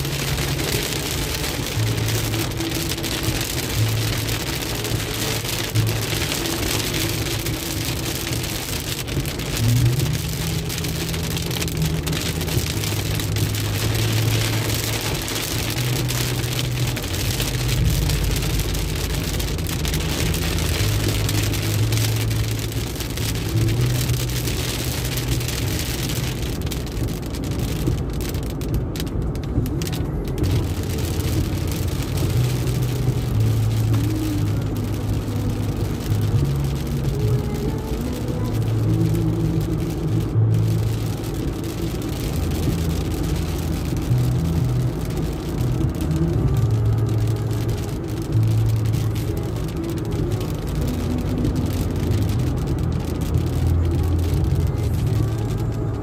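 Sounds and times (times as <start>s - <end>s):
low drone of car on wet road: 0.0s - 56.0s
rain hitting car windscreen: 0.0s - 56.0s.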